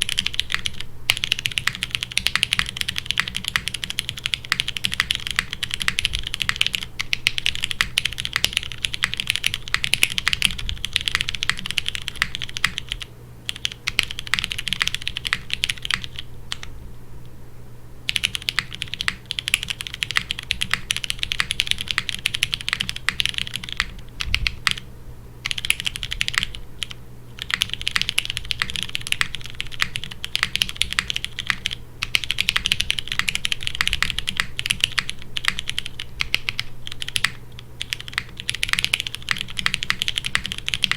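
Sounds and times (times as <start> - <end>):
mechanical keyboard typing: 0.0 - 16.7, 18.1 - 24.8, 25.4 - 40.9.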